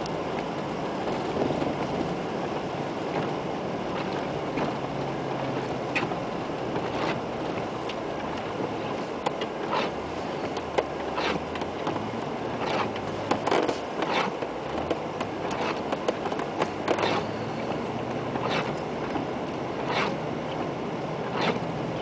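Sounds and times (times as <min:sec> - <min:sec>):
car engine running: 0:00.0 - 0:22.0
windscreen wipers swishing: 0:00.0 - 0:22.0.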